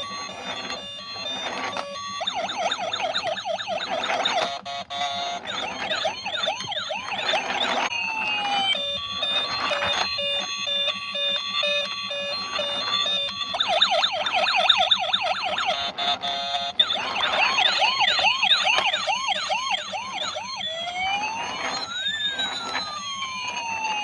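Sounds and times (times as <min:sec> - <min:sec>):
toy electronic siren: 0:00.0 - 0:24.0.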